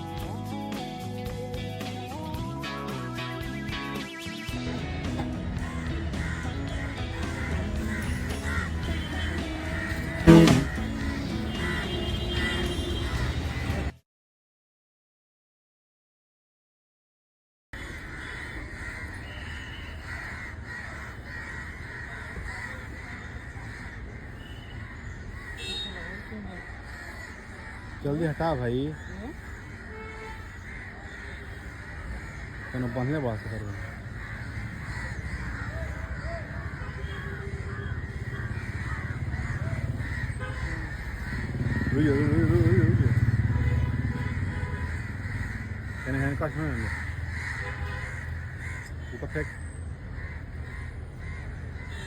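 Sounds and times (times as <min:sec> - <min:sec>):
birds calling: 0:04.4 - 0:13.9, 0:17.8 - 0:52.0
crows cawing: 0:04.7 - 0:13.9, 0:17.8 - 0:52.0.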